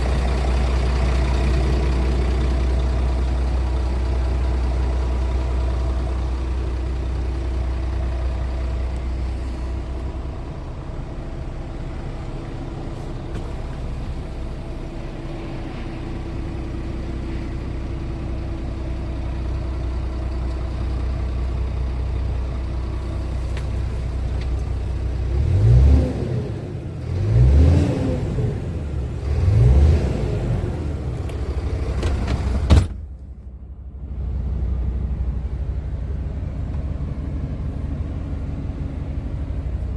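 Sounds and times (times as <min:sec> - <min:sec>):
truck diesel engine idling: 0:00.0 - 0:25.5, 0:28.4 - 0:39.9.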